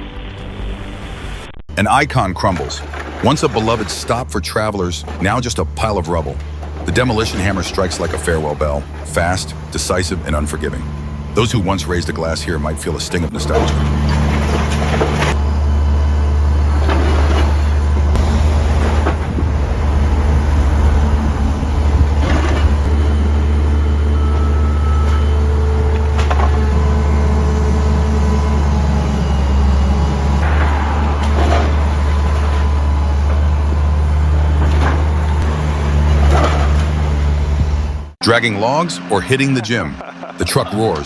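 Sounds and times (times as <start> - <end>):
heavy machine engine rumbling: 0.0 - 41.0.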